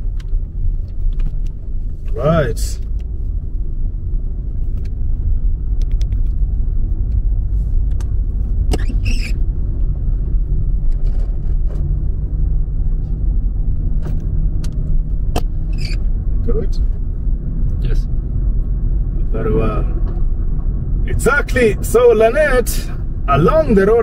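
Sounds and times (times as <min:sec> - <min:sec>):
car cabin road rumble: 0:00.0 - 0:24.0.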